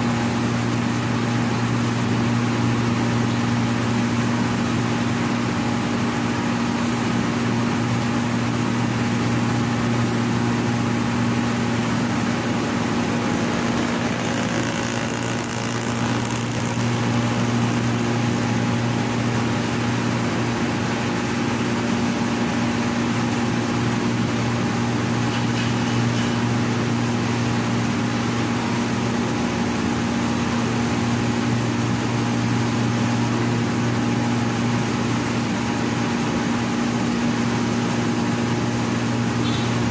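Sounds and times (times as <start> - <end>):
milling machine droning hum: 0.0 - 39.9.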